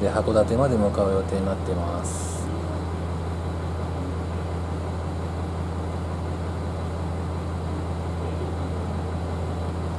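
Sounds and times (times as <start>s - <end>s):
diesel railcar engine idling: 0.0s - 9.9s.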